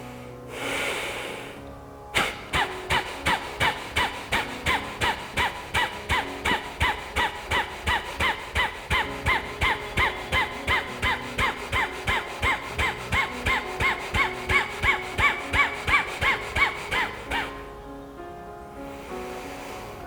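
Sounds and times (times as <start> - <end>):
forceful nasal exhalations: 0.0 - 17.6, 18.9 - 20.0.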